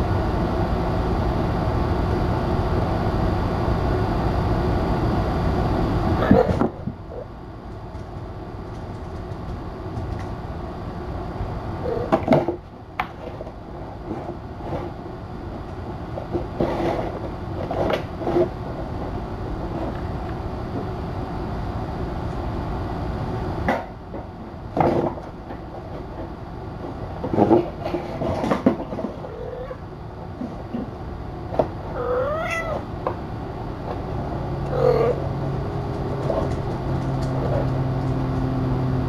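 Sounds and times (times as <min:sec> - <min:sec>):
low room noise rumble: 0:00.0 - 0:39.0.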